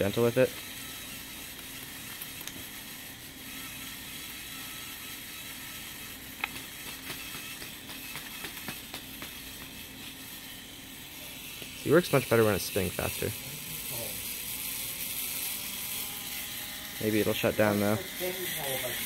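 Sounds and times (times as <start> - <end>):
robot motors whirring: 0.0 - 19.0.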